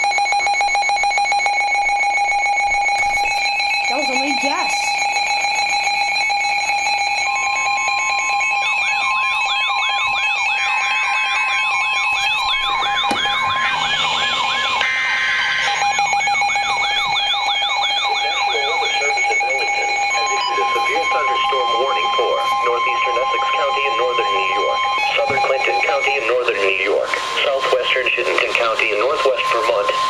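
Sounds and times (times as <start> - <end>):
siren alert sweeping: 0.0 - 30.0
warning alarm tone: 0.0 - 30.0
steady held tones: 0.1 - 30.0.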